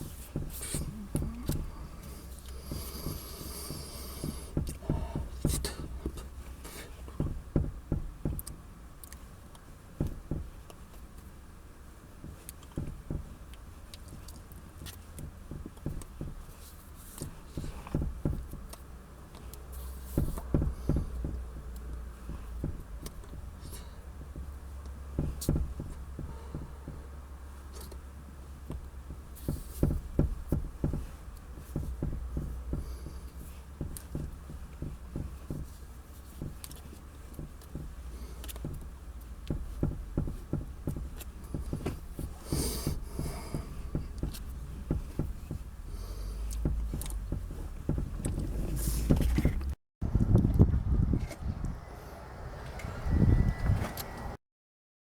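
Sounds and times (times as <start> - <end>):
low steady hum: 0.0 - 54.4.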